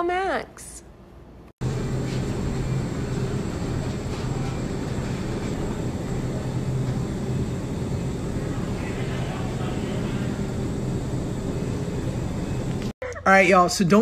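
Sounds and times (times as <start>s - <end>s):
ventilation rushing noise: 1.3s - 14.0s
refrigerator droning hum: 1.4s - 14.0s.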